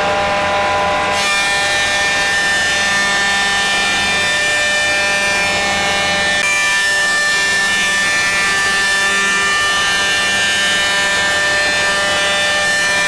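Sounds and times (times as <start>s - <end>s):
thickness planer whining: 0.0s - 13.0s.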